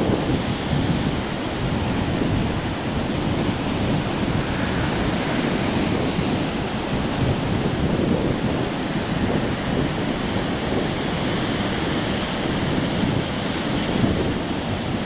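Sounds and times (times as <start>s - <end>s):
surf breaking on beach: 0.0s - 15.0s
wind on microphone: 0.0s - 15.0s.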